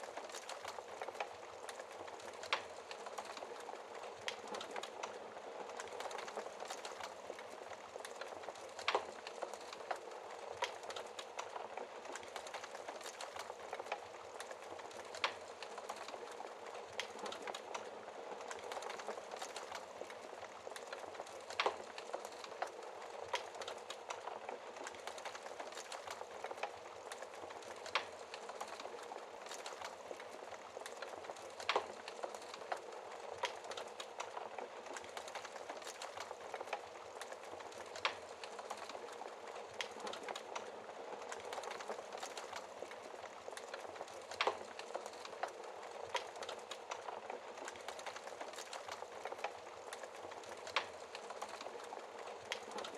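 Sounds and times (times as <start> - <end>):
log fire crackling: 0.0 - 52.9
rain falling: 0.0 - 52.9.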